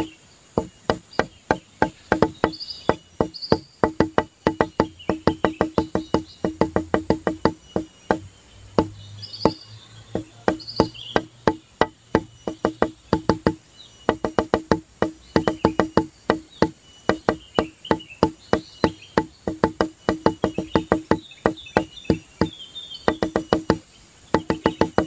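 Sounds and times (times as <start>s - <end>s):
music of quick pitched knocks: 0.0s - 25.0s.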